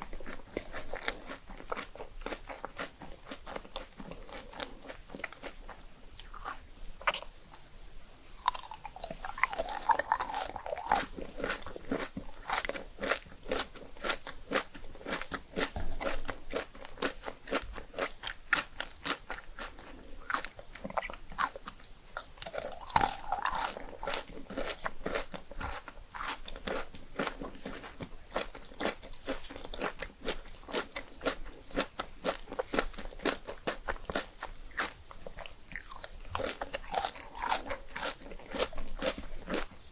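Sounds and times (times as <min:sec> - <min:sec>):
crunching puffed rice cakes: 0:00.0 - 0:07.3, 0:08.2 - 0:39.9.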